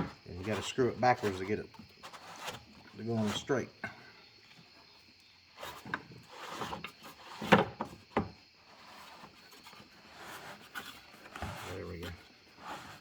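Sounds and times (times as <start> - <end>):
lock ring knocks and scrapes: 0.0 - 4.0, 5.6 - 13.0.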